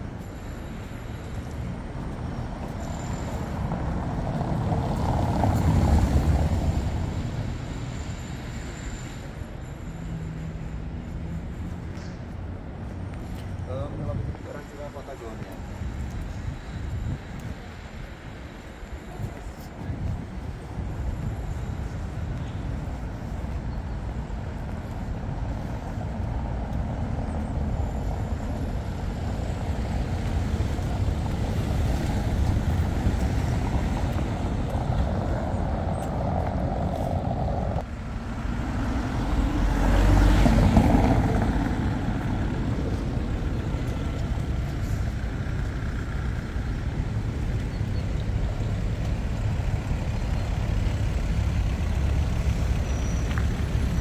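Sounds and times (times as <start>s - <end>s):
passing traffic rumble: 0.0s - 54.0s.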